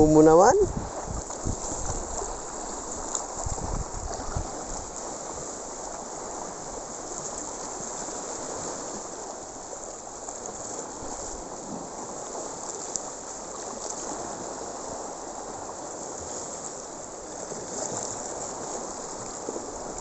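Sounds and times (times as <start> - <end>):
sea water washing over rocks: 0.0 - 20.0.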